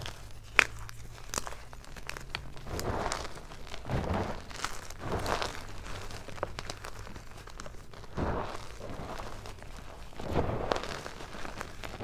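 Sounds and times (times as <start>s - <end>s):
hands crushing chalk blocks: 0.0s - 12.0s.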